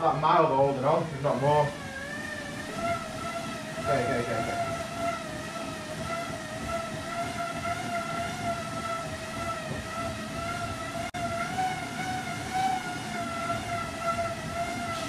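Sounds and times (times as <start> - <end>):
bike tyres whining on rollers: 0.0 - 15.0.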